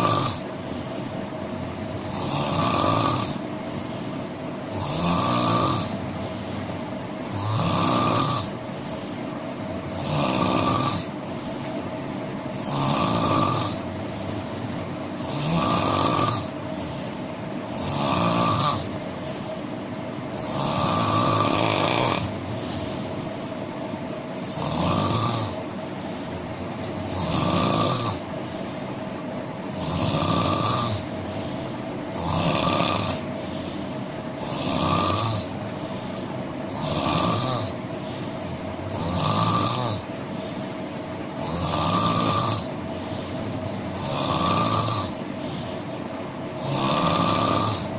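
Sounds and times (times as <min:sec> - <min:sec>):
person snoring: 0:00.0 - 0:01.3, 0:01.9 - 0:09.2, 0:09.9 - 0:11.8, 0:12.5 - 0:19.6, 0:20.3 - 0:23.7, 0:24.4 - 0:26.4, 0:27.0 - 0:29.0, 0:29.7 - 0:47.9.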